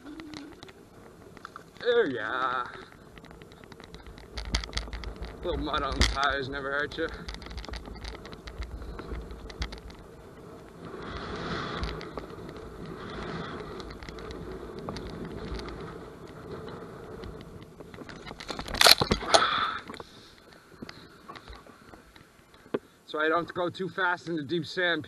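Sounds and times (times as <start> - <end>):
scooter rattling on sandy trail: 0.0 - 25.0.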